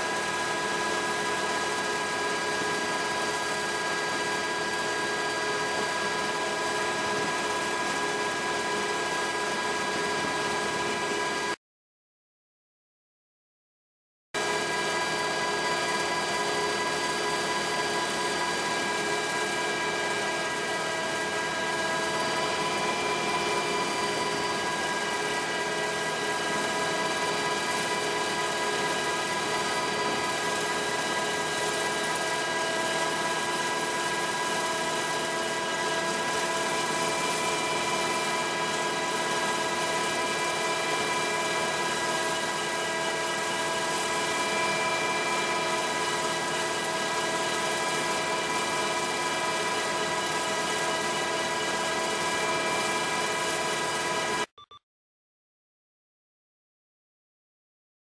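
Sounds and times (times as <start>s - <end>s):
helicopter engine and rotor drone: 0.0s - 11.6s, 14.4s - 54.7s.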